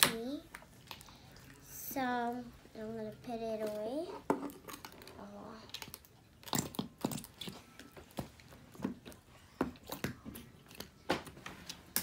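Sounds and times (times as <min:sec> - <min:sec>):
slime squelching: 0:00.0 - 0:12.0.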